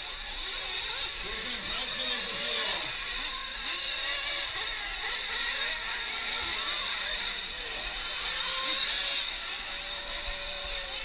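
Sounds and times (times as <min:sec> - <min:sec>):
rc truck engines whining: 0:00.0 - 0:11.0.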